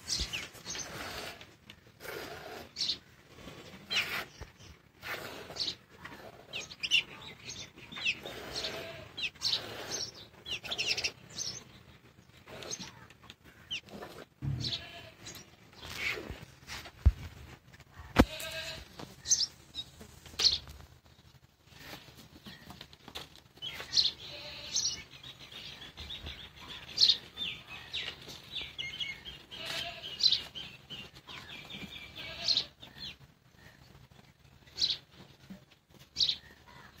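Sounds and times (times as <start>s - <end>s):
small birds chirping: 0.0s - 17.2s, 18.1s - 37.0s.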